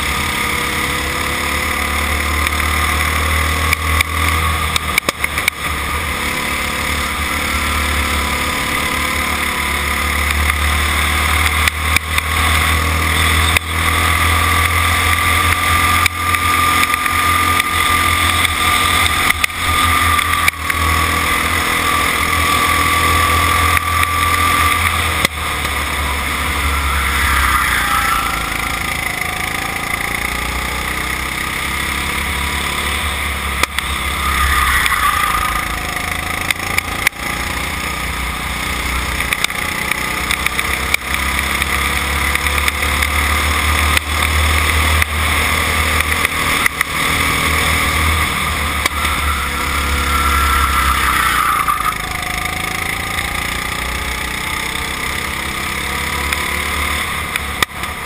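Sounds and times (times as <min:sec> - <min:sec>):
go-kart engine: 0:00.0 - 0:58.0.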